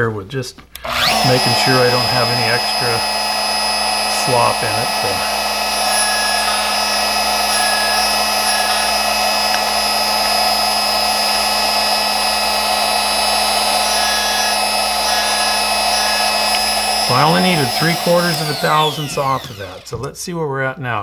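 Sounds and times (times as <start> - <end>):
grinding motor whining: 0.8 - 20.1
screwdriver blade grinding on cutter: 0.8 - 20.1.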